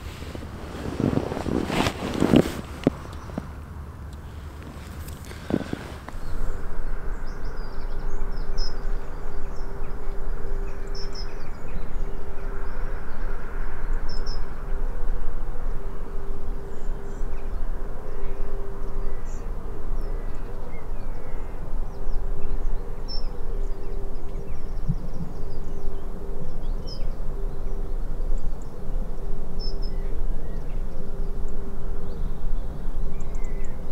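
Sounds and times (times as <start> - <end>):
birds chirping: 0.0 - 14.8, 15.6 - 33.9
faint low hum: 0.0 - 33.9
outdoor background rush: 0.0 - 33.9.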